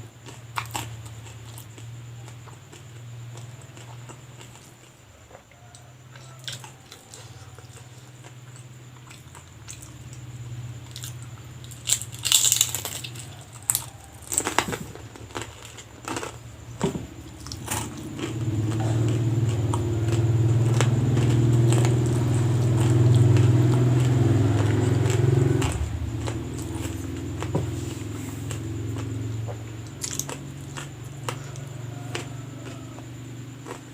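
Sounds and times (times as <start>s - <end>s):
crunching and chewing: 0.0s - 33.9s.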